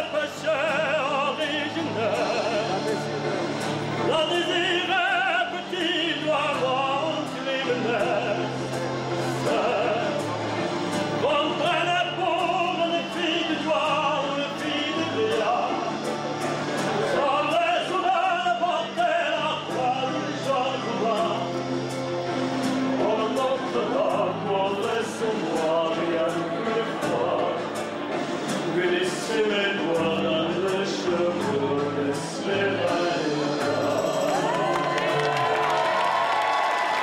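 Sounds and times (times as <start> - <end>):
man singing with vibrato: 0.0 - 35.7.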